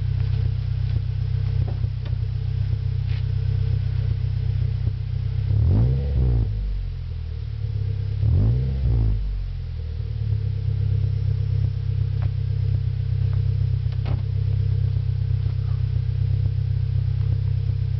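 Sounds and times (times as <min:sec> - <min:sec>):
car engine revving and idling: 0:00.0 - 0:17.9.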